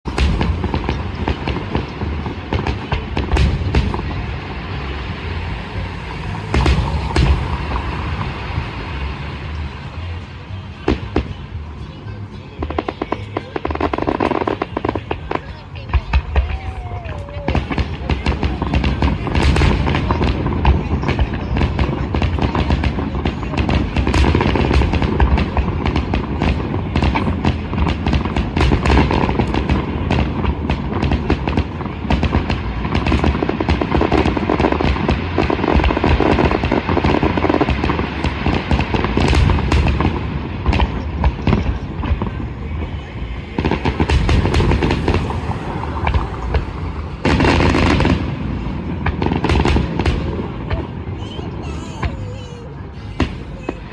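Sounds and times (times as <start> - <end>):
firework shells booming: 0.0 - 5.4, 6.2 - 9.2, 17.4 - 52.4
fireworks crackling: 0.0 - 53.9.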